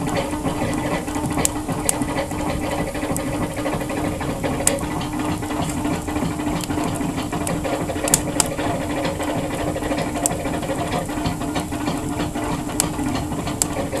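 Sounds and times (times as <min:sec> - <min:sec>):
fire hissing: 0:00.0 - 0:14.0
wood fire crackles: 0:00.0 - 0:14.0.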